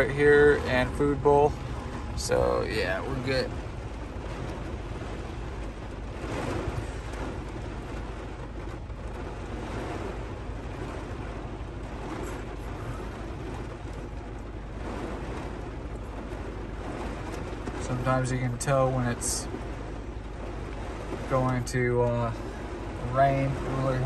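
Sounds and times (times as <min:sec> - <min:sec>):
heavy rain on a vehicle: 0:00.0 - 0:24.0.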